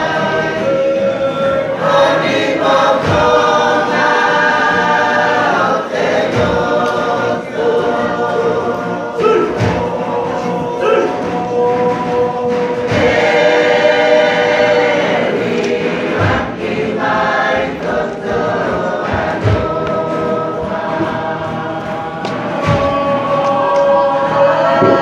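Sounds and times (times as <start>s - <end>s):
group singing in chorus: 0.0s - 25.0s.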